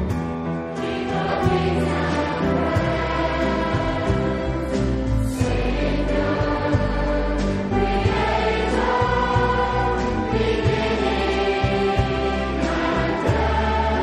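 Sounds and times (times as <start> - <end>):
instrumental accompaniment: 0.0 - 14.0
choir singing worship song: 0.5 - 14.0.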